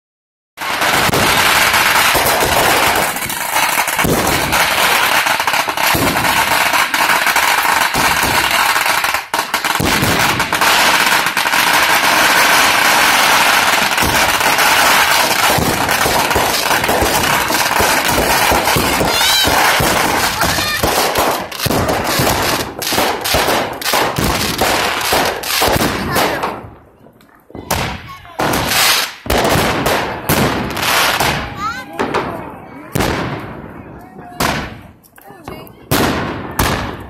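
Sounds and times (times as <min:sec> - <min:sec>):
fireworks crackling and banging: 0:00.6 - 0:37.0.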